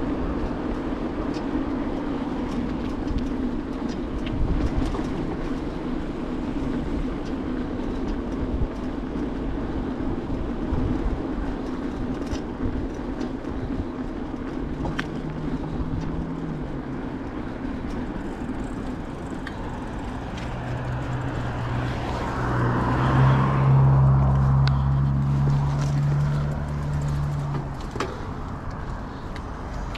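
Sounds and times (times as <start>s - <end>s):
bicycle rolling over stone paving: 0.0s - 29.9s.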